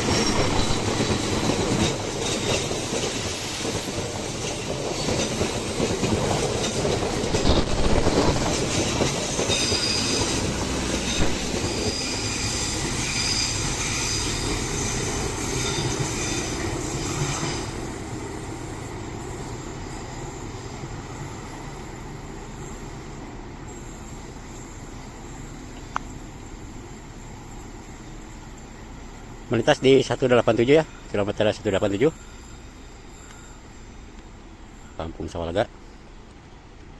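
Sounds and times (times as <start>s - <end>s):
train wheels squealing: 0.0s - 36.8s
train passing on rails: 0.0s - 36.9s.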